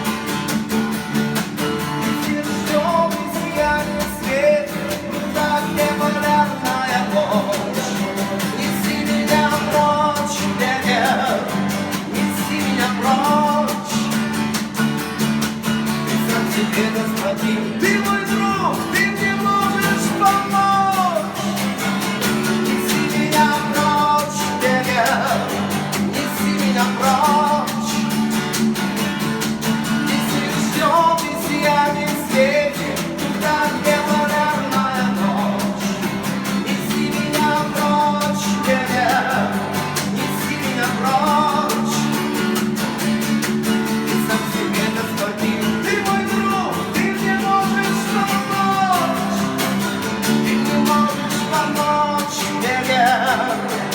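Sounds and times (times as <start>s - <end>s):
song with guitar: 0.0s - 53.9s.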